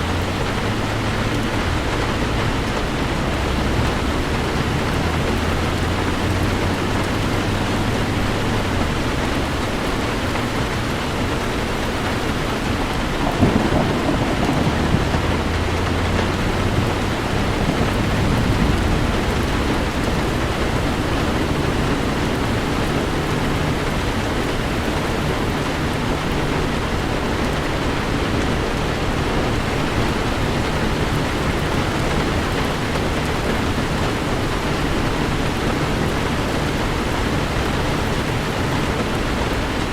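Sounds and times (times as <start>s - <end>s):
heavy rain on car roof: 0.0s - 39.9s
thunder rumbling: 0.0s - 39.9s.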